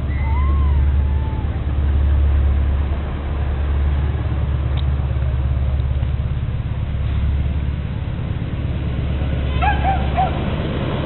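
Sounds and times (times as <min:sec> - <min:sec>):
diesel engine deep rumble: 0:00.0 - 0:11.0.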